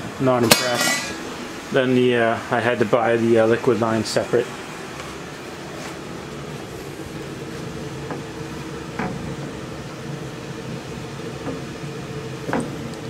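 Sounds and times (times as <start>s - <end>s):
furnace blower fan humming: 0.0s - 13.0s.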